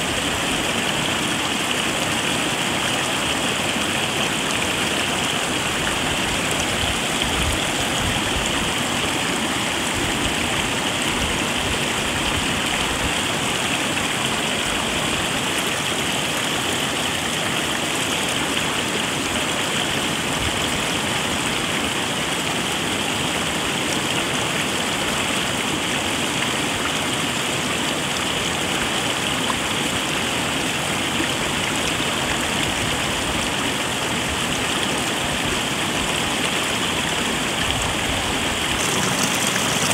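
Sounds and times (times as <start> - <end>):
stream rushing water: 0.0 - 39.9.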